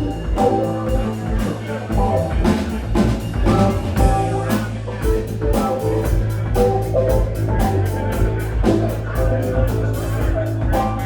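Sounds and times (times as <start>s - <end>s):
bass line: 0.0s - 11.0s
rock band playing: 0.0s - 11.0s.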